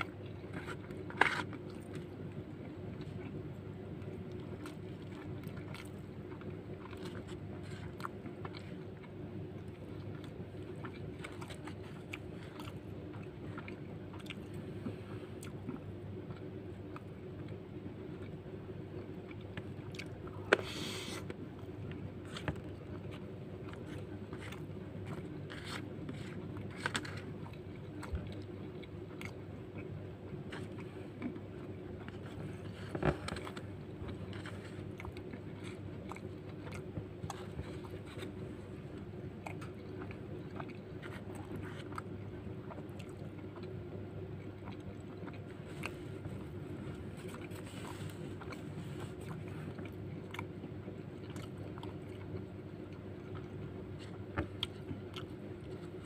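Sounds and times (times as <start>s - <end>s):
close-up chewing and biting: 0.0s - 56.0s
steady low hum: 0.0s - 56.0s.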